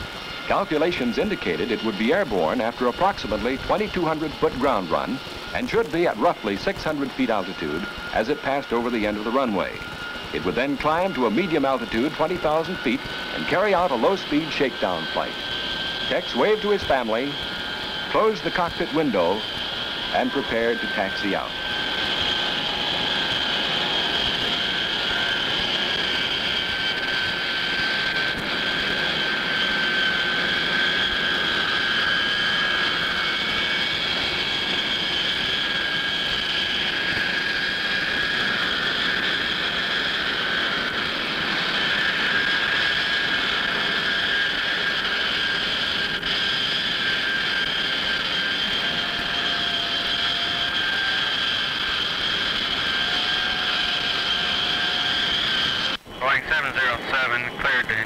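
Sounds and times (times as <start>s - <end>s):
jet engine turbine whine: 0.0s - 58.0s
rush of jet noise: 0.0s - 58.0s.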